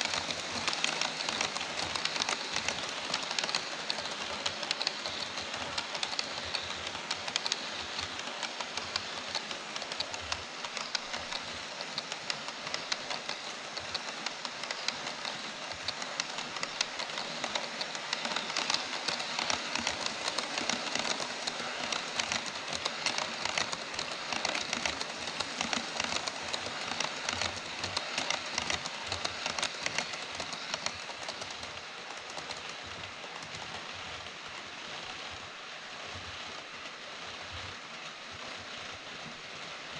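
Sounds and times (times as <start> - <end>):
model train wheels clattering: 0.0 - 39.9.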